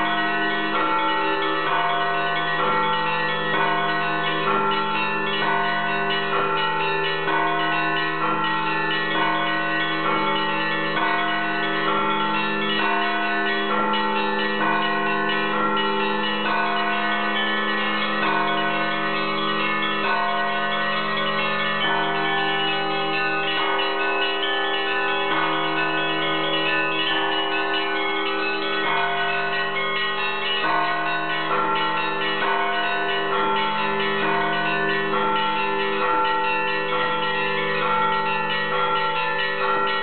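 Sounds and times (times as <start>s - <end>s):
hum of large bells: 0.0s - 40.0s
small church bells ringing: 0.0s - 40.0s.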